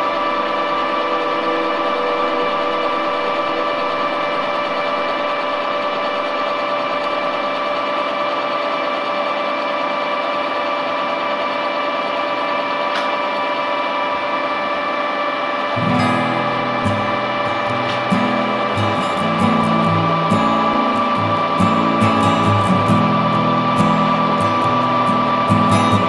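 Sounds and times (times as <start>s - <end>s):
metal lathe humming and whining: 0.0s - 26.0s.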